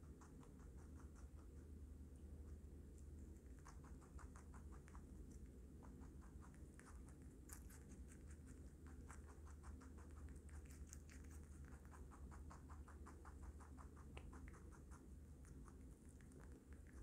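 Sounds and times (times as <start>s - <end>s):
low steady hum: 0.0s - 17.0s
rabbit chewing vegetables: 0.0s - 17.0s.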